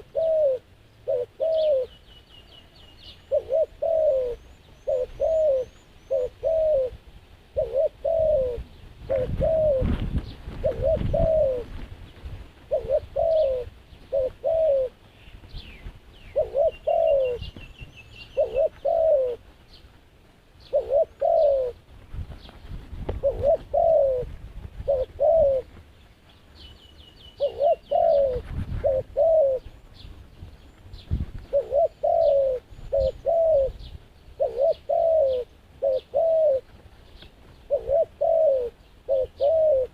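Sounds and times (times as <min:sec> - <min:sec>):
small birds chirping and trilling: 0:00.0 - 0:06.9, 0:07.6 - 0:24.2, 0:25.0 - 0:28.4, 0:29.0 - 0:39.9
doves cooing: 0:00.0 - 0:19.9, 0:20.6 - 0:39.9.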